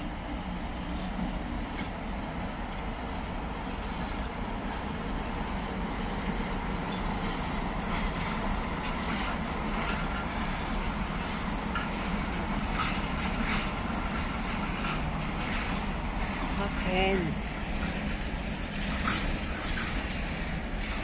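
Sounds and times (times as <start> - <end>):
electric locomotive hum and rumble: 0.0 - 21.0.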